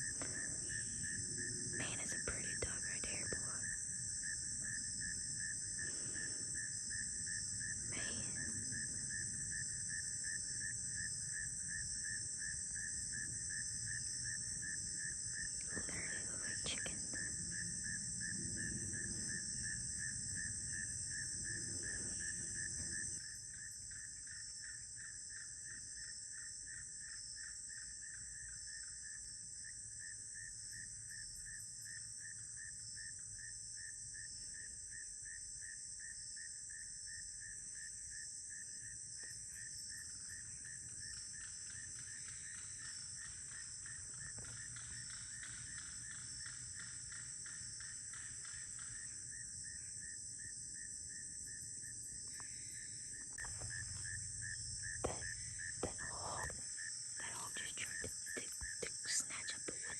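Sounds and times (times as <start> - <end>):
cricket-like trill: 0.0 - 59.9
insect buzz: 0.0 - 59.9.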